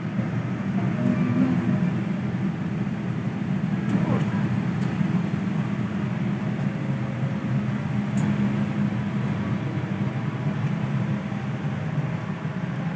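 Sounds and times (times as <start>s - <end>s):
airplane cabin rumble: 0.0s - 12.9s.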